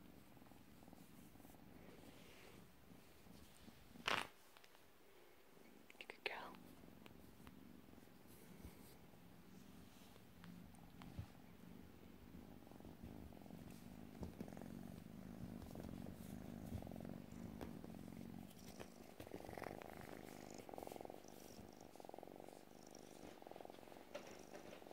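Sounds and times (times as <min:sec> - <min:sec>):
kitten purring: 0:00.0 - 0:04.7, 0:05.5 - 0:24.9.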